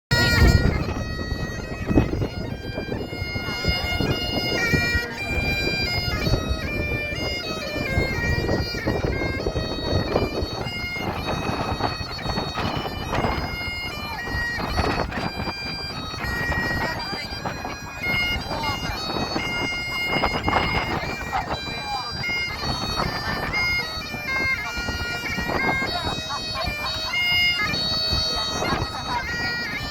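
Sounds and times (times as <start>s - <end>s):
bagpipes playing a tune: 0.1s - 29.9s
wind rumble on microphone: 0.1s - 29.9s.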